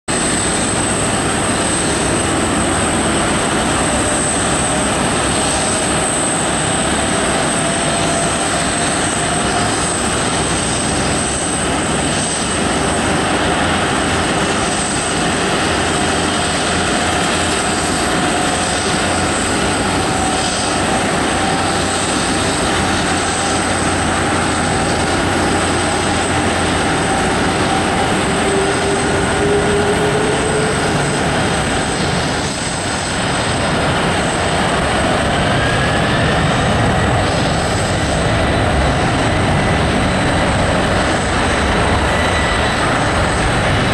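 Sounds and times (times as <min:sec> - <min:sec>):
jet engine whine and rumble: 0:00.0 - 0:43.9
thin high whine: 0:00.1 - 0:43.9.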